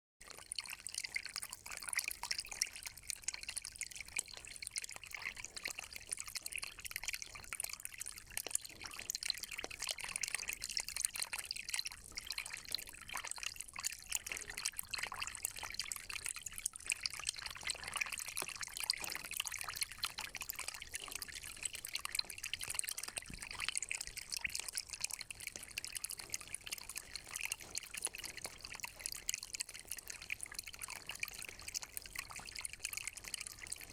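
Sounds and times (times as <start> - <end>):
spring water trickling: 0.2 - 33.9.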